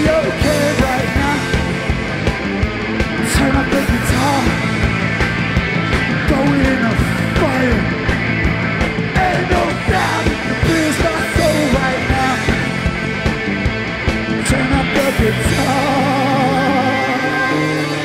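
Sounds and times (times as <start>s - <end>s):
pounding drums: 0.0s - 16.4s
bass guitar: 0.0s - 18.0s
distorted guitars: 0.0s - 18.0s.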